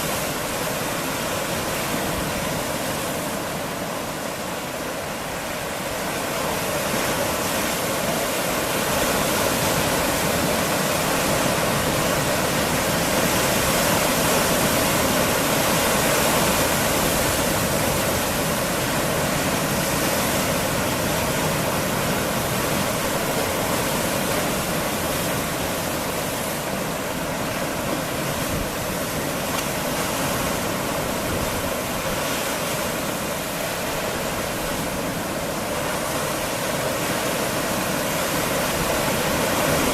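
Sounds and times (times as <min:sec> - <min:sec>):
sea waves washing against rocks: 0:00.0 - 0:39.9.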